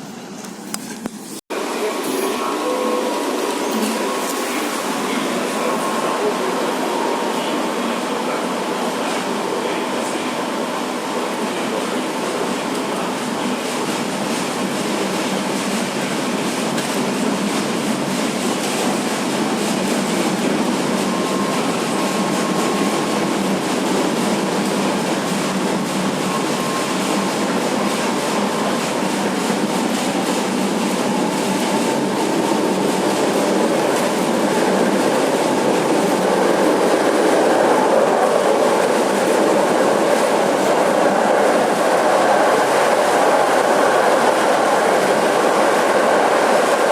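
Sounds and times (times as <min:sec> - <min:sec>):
tram wheels on rails: 0:00.0 - 0:46.9.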